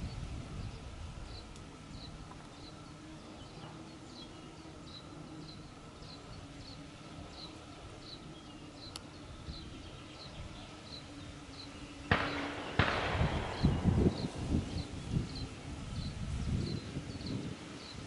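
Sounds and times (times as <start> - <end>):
small bird chirping: 0.0 - 18.0
wind buffeting microphone: 0.0 - 18.0.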